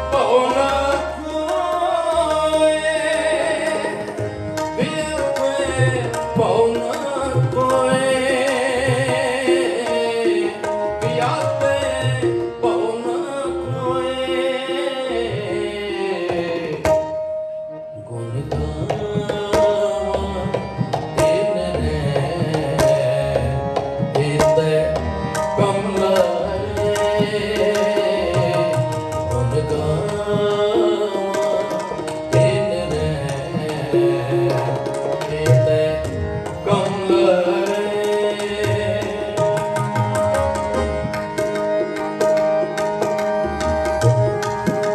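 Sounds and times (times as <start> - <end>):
harmonium: 0.0 - 44.9
tabla drumming: 0.0 - 44.9.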